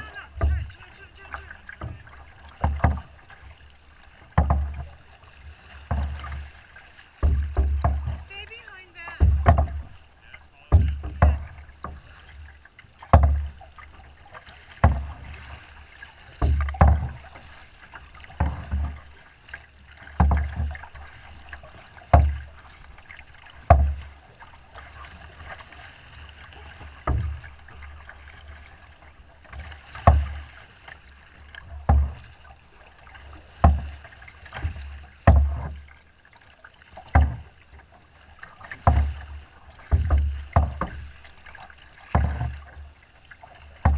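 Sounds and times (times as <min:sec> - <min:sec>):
water thumping against boat hull: 0:00.0 - 0:43.9
water wash and wind: 0:00.0 - 0:43.9.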